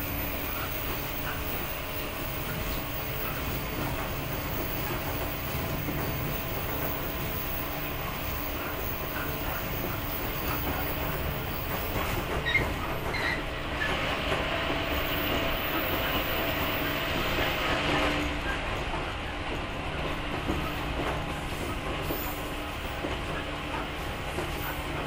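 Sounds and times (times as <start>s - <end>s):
wheels rumbling on track: 0.0s - 25.0s.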